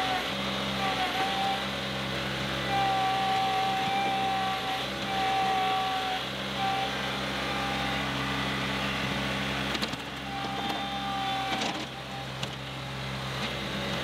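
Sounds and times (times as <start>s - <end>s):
thin hydraulic whine: 0.0s - 14.0s
tractor diesel engine under load: 0.0s - 14.0s.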